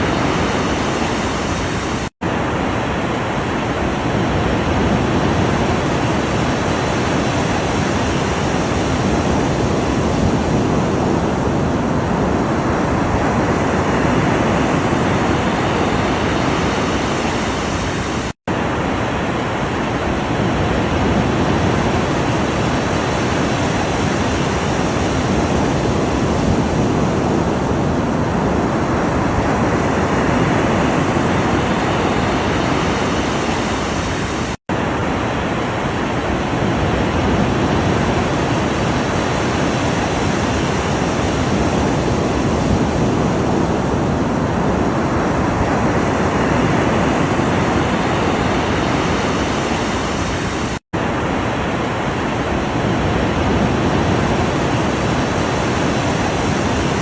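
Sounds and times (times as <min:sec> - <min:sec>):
ocean waves surf: 0:00.0 - 0:57.0.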